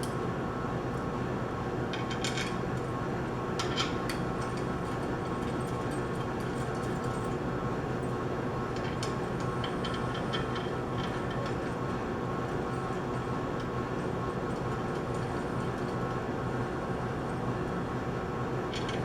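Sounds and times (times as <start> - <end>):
steady machinery hum: 0.0 - 19.0.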